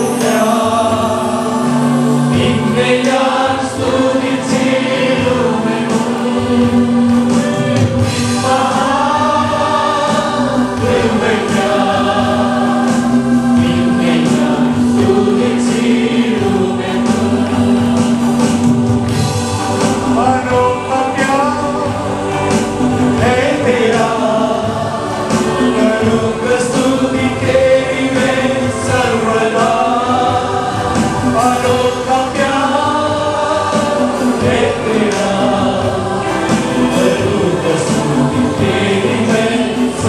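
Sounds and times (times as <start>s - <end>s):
congregation singing: 0.0s - 40.0s
musical accompaniment: 0.0s - 40.0s.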